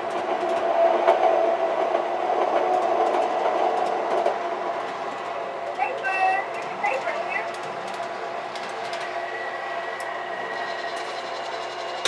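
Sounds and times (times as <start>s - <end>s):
light track clicks: 0.0s - 9.2s, 9.9s - 12.0s
model streetcar humming: 0.0s - 12.0s.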